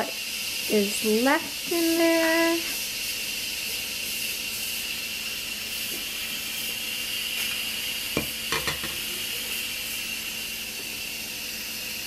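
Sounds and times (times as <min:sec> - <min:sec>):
pressure cooker steam hissing: 0:00.0 - 0:12.0.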